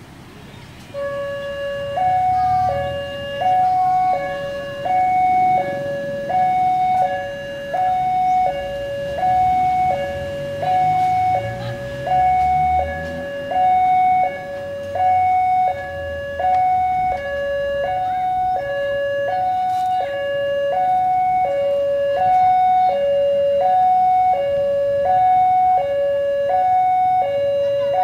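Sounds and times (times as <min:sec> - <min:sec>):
two-tone crossing alarm: 0:00.9 - 0:28.0.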